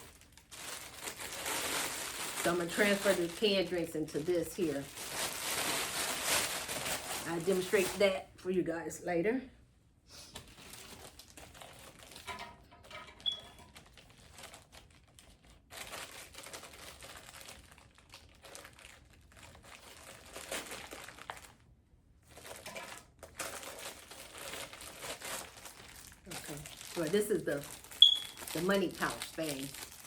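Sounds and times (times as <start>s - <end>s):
plastic bags crinkling: 0.0s - 8.2s, 10.4s - 30.0s.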